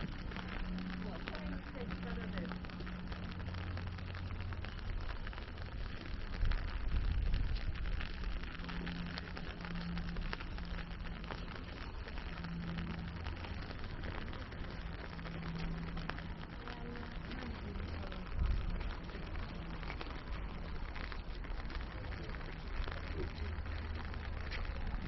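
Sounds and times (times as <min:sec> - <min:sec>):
rain pattering: 0:00.0 - 0:25.0
wind rumble on microphone: 0:00.0 - 0:25.0.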